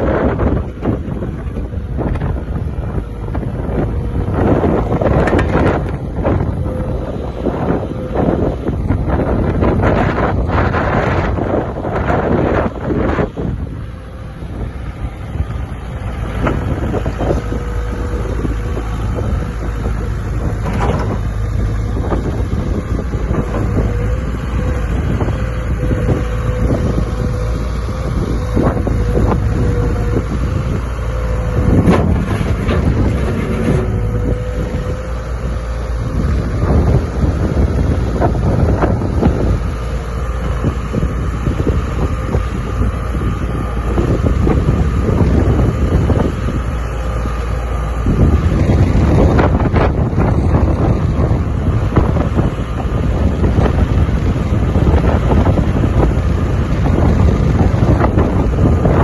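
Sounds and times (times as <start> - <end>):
diesel engine running: 0.0 - 59.0
steady whine: 0.0 - 59.0
wind on microphone: 0.0 - 59.0.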